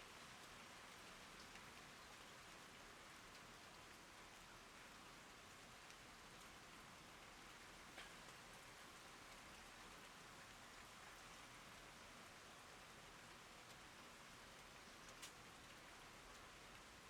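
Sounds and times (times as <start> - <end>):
rain falling: 0.1 - 17.0.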